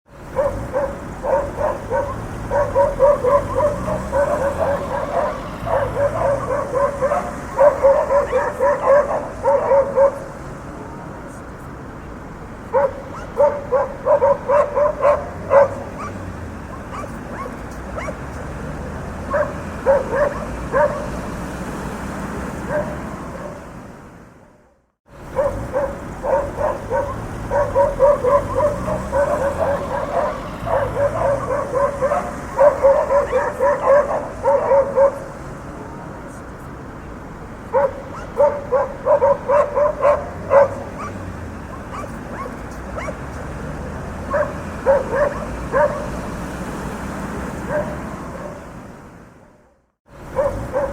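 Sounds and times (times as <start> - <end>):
street traffic rumble: 0.0 - 50.9
dogs barking: 0.2 - 11.4, 12.6 - 23.9, 24.6 - 36.4, 37.6 - 48.9, 50.2 - 50.9.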